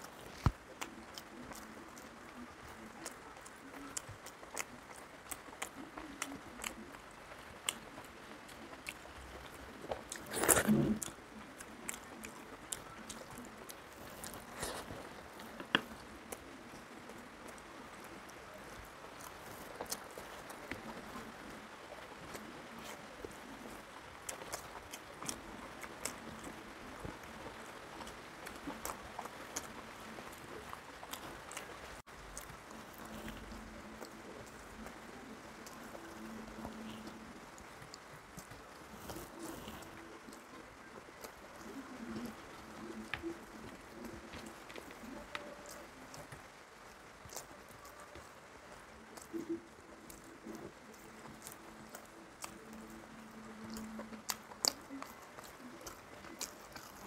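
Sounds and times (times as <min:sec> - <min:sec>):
wet chewing and lip-smacking: 0:00.0 - 0:57.0.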